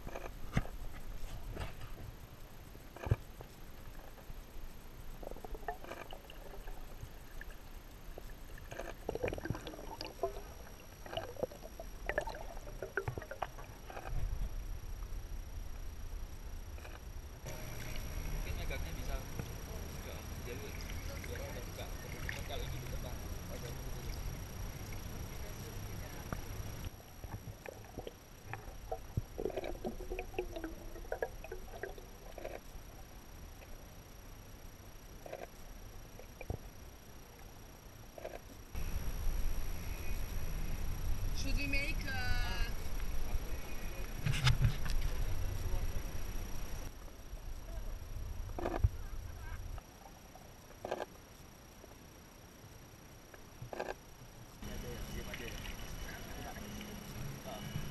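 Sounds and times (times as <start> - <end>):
underwater moving water: 0.0 - 51.7, 53.6 - 57.9.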